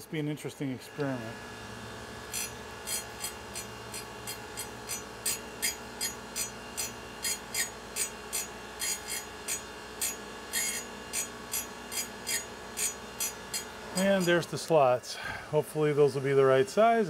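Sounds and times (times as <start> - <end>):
grinder humming: 0.2 - 17.0
grinding wheel rasping on steel: 1.0 - 14.7.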